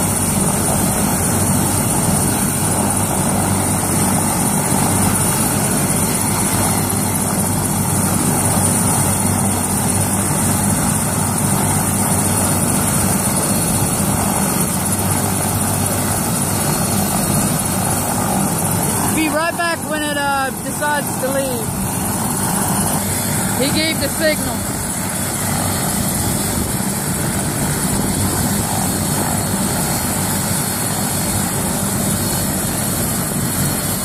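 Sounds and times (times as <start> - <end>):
helicopter rotor running: 0.0 - 34.0.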